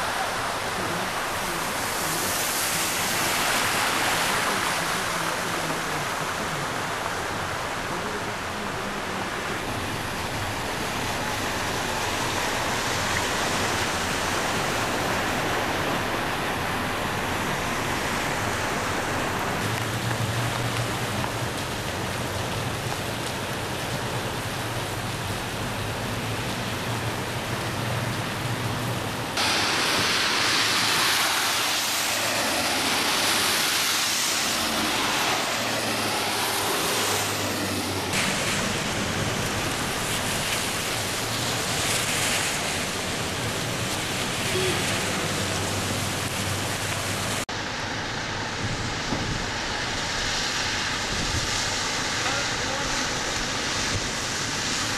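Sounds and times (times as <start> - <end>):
rain: 0.0 - 54.9
running rainwater: 0.0 - 54.9.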